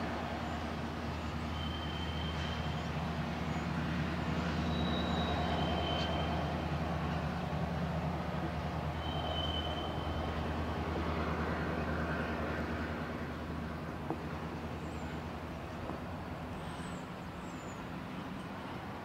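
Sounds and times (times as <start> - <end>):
cars crossing railway tracks: 0.0 - 19.0
diesel locomotive rumble: 0.0 - 19.0.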